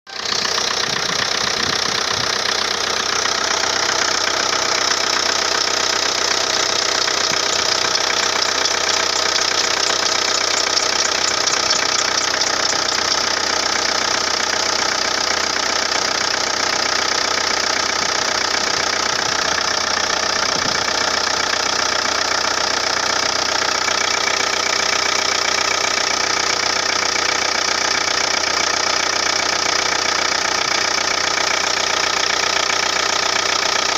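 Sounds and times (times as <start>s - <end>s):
car engine running: 0.1s - 33.9s
drive belt squealing: 0.1s - 33.9s.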